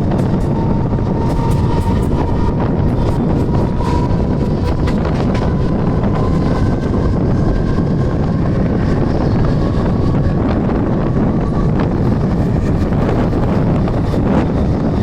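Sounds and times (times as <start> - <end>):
train wheels rumbling: 0.0 - 15.0
wind buffeting microphone: 0.0 - 15.0.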